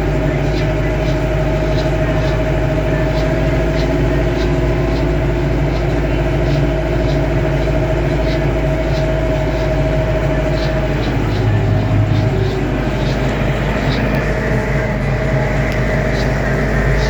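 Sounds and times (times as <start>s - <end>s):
faint regular ticking: 0.0s - 17.0s
gearbox whine: 0.0s - 17.0s
tractor engine rumble: 0.0s - 17.0s.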